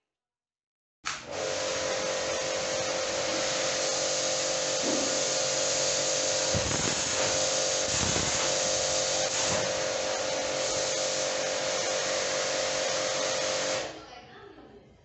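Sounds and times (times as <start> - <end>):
pressure washer motor hum: 1.1 - 14.0
water jet hissing: 1.3 - 14.0.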